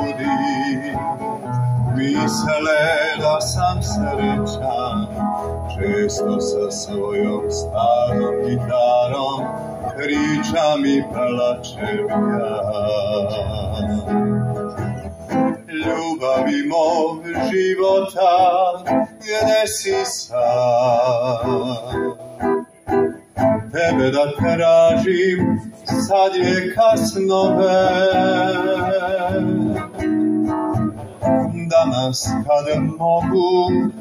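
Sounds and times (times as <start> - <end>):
acoustic guitar plucked and strummed: 0.0 - 34.0.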